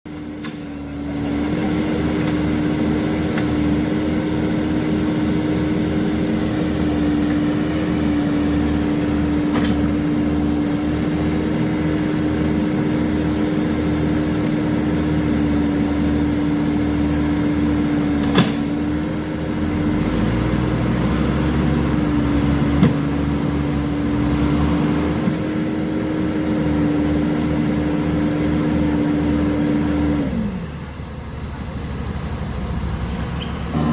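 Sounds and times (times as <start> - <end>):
heavy diesel machinery running: 0.0 - 33.9.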